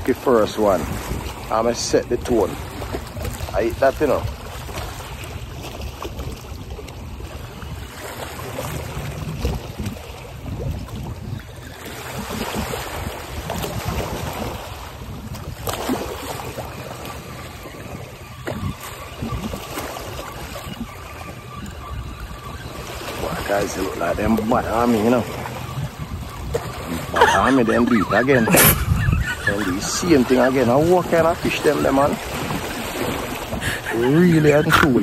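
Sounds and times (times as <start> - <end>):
small waves lapping: 0.0 - 35.0
wind rumbling on microphone: 0.0 - 35.0.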